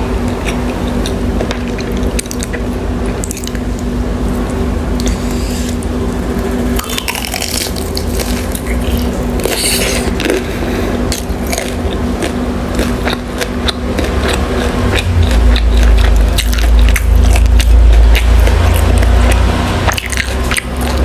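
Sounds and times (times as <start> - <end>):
low hum: 0.0 - 21.0
chewing and mouth sounds: 0.2 - 21.0.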